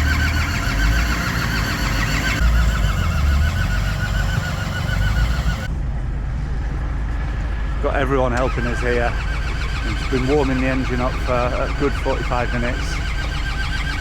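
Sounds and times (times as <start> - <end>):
diesel engine cranking: 0.0 - 14.0.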